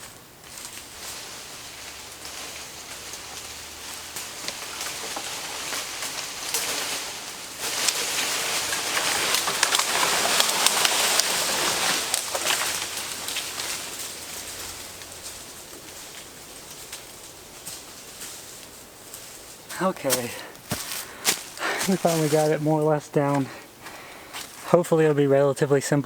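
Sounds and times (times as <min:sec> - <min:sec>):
twigs snapping: 0:00.0 - 0:24.6
leaves and branches rustling: 0:00.0 - 0:26.0.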